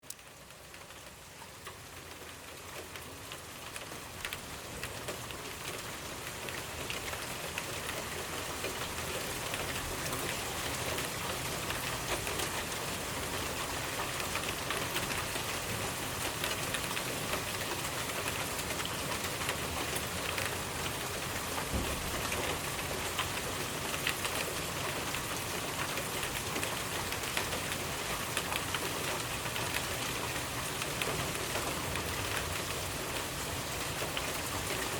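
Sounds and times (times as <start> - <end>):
rain pattering on a surface: 0.0 - 34.9.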